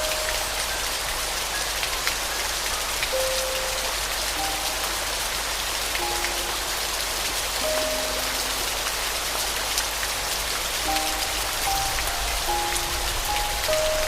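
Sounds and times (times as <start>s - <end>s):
rain drops pattering: 0.0s - 14.0s
soft piano notes: 0.0s - 14.0s.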